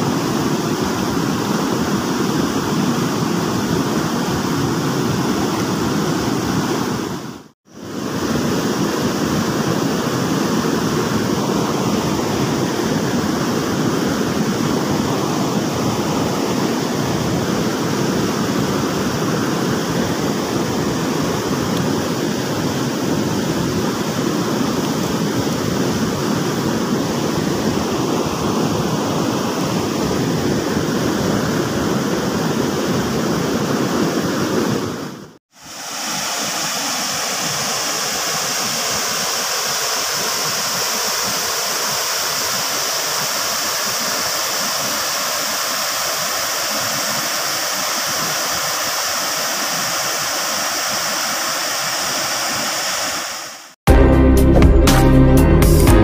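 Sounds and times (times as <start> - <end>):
river water rushing: 0.0 - 53.8.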